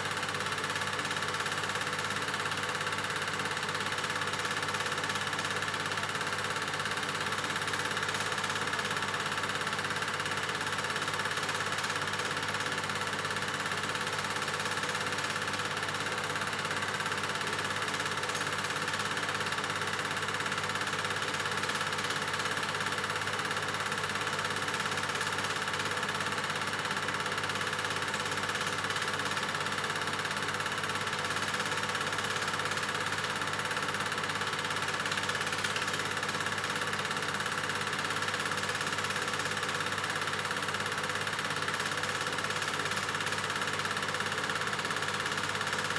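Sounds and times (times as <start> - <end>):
film projector running: 0.0 - 45.9.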